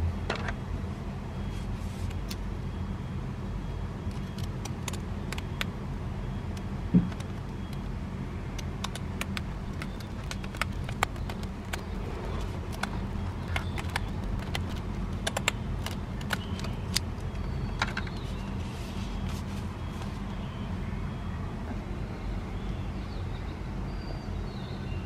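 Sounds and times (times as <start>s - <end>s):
steady low hum: 0.0s - 23.7s.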